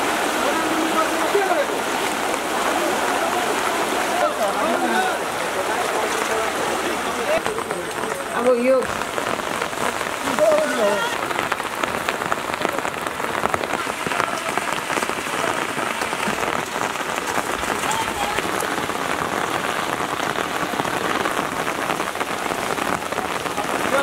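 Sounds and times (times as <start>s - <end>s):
heavy rain falling on water: 0.0s - 24.0s.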